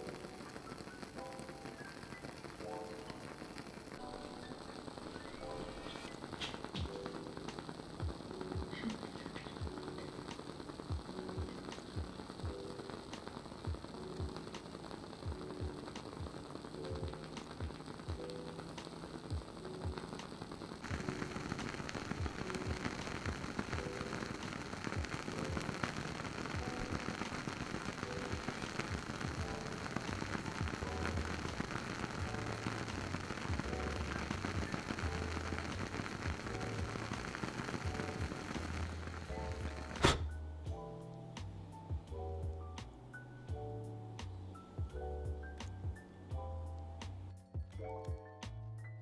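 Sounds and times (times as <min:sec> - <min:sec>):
candle wick crackling: 0:00.0 - 0:47.3
soft background music: 0:00.0 - 0:49.0.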